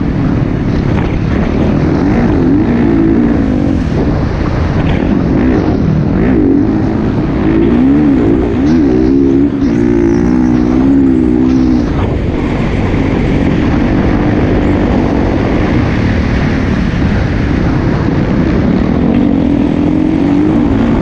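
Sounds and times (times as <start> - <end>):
dirt bike engine revving: 0.0 - 21.0
wind noise: 0.0 - 21.0.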